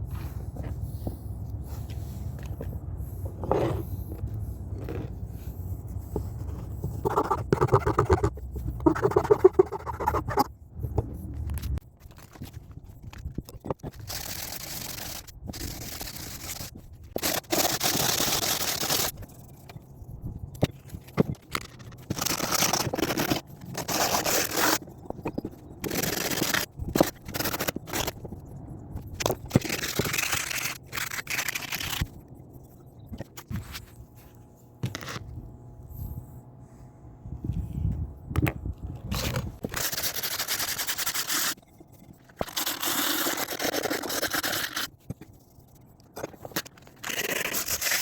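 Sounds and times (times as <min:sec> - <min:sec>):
hatchet scraping strokes: 0:03.2 - 0:11.1, 0:11.7 - 0:33.9, 0:39.1 - 0:48.0.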